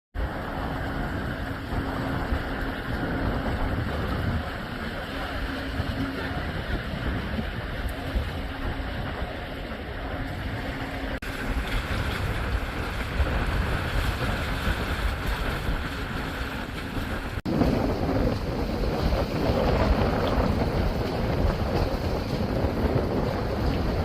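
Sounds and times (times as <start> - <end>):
sea washing: 0.2 - 24.0
wind buffeting microphone: 0.2 - 24.0.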